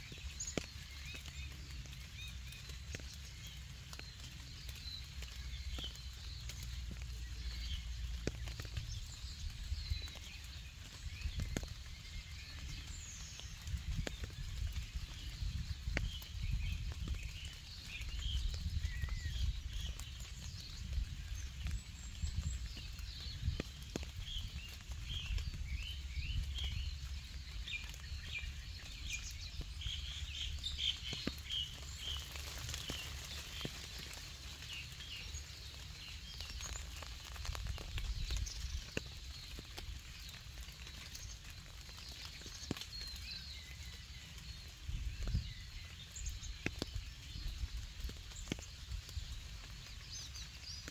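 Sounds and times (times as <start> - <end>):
light rain pattering: 0.0 - 50.9
small birds chirping: 0.0 - 50.9.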